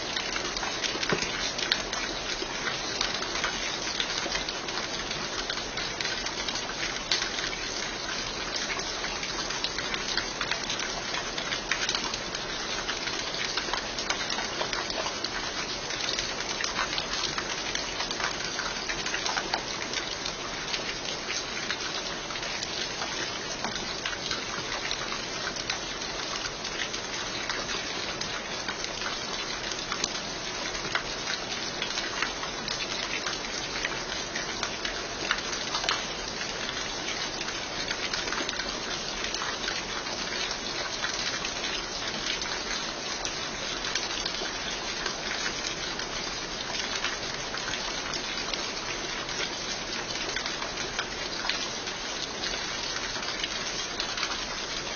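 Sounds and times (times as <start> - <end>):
raindrops ticking: 0.0 - 54.9
steady rain falling: 0.0 - 54.9.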